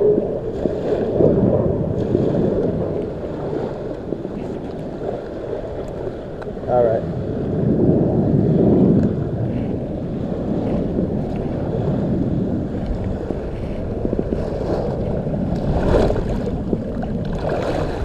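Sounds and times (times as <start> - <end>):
surf washing on beach: 0.0 - 18.0
wind rumbling on microphone: 0.0 - 18.0.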